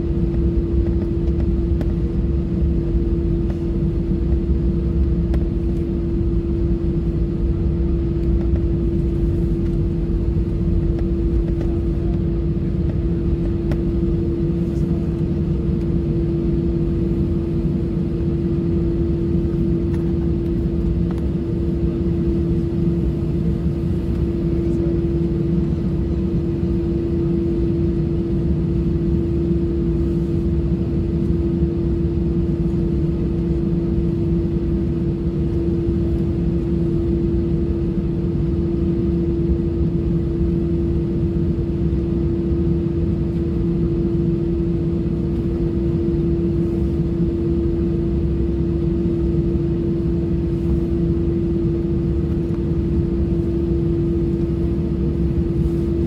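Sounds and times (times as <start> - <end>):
jet engines idling in cabin: 0.0 - 56.0.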